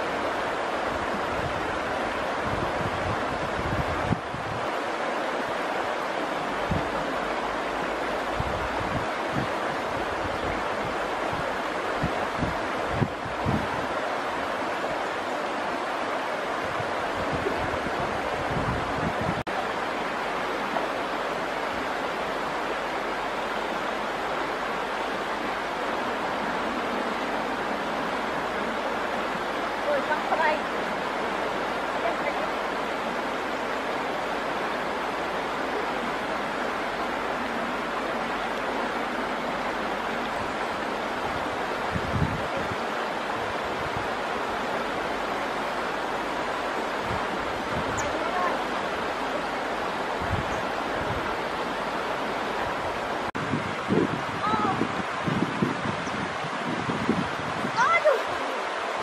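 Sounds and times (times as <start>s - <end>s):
river water rushing: 0.0s - 59.0s
wind on microphone: 0.0s - 59.0s.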